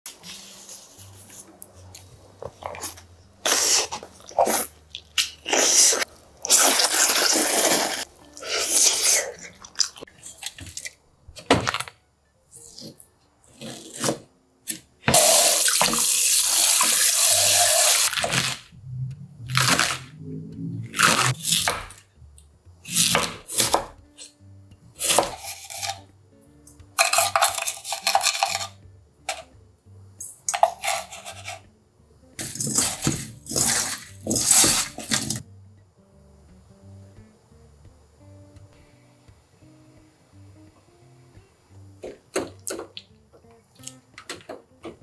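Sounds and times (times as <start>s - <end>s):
soft background music: 0.1s - 45.0s.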